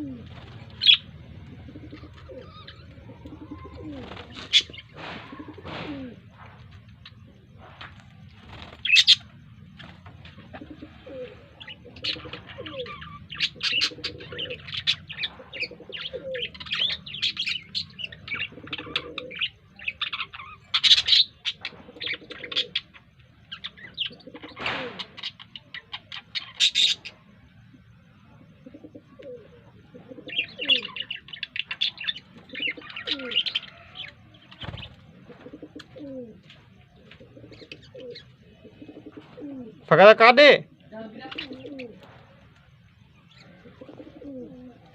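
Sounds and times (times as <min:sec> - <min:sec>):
birds chirping and chattering: 0:00.0 - 0:44.9.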